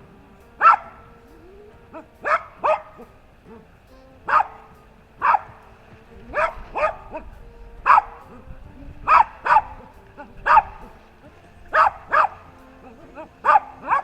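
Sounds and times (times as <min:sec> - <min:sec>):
dog barking: 0:00.5 - 0:14.0.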